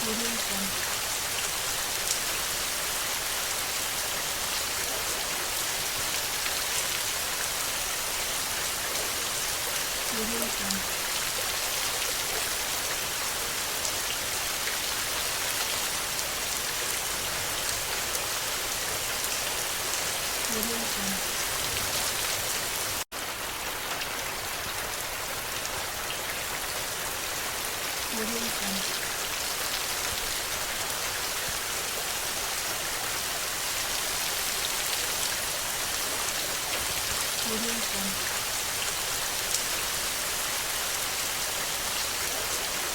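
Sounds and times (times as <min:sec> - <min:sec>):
raindrops ticking on a surface: 0:00.0 - 0:42.9
steady rain falling: 0:00.0 - 0:42.9.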